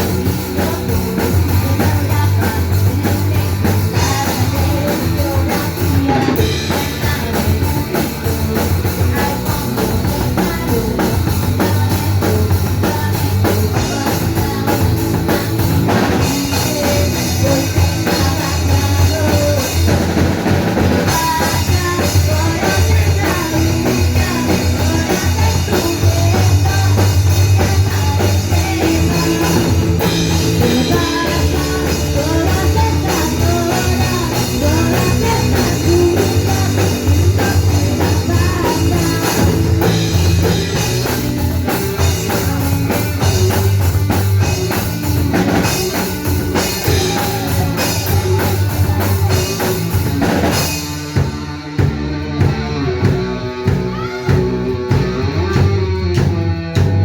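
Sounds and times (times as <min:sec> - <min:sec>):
drum kit: 0:00.0 - 0:57.0
electric guitars: 0:00.0 - 0:57.0
heavy bass: 0:00.0 - 0:57.0.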